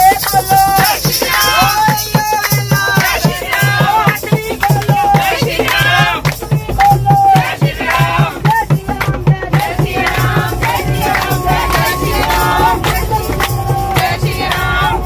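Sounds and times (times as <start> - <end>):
devotional singing: 0.0 - 15.0
hand claps: 0.0 - 15.0
steady drum beat: 0.0 - 15.0.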